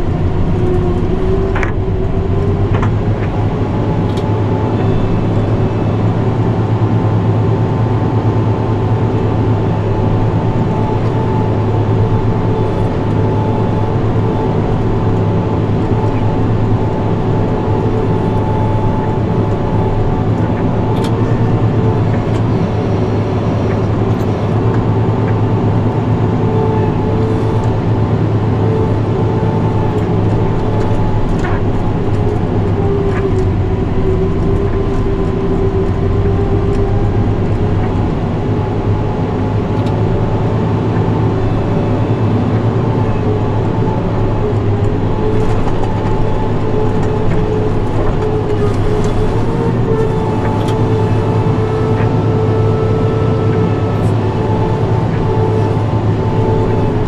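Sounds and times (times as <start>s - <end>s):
snowblower whine: 0.0s - 57.0s
tractor engine droning: 0.0s - 57.0s.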